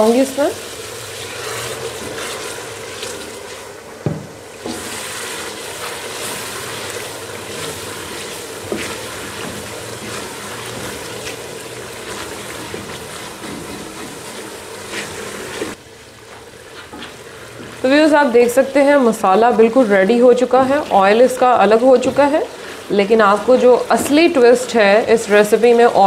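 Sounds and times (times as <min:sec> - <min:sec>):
masala sizzling and bubbling in oil: 0:00.0 - 0:26.0
wooden spoon stirring: 0:01.0 - 0:03.7, 0:04.6 - 0:26.0.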